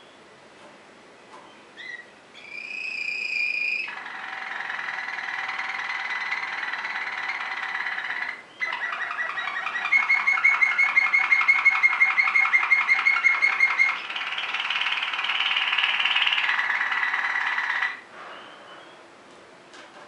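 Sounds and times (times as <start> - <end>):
canary singing: 1.5 - 19.1.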